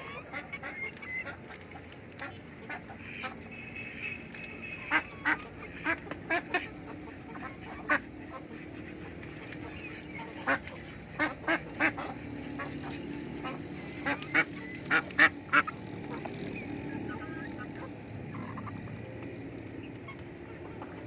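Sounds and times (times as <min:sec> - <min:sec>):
ducks quacking: 0:00.0 - 0:21.0.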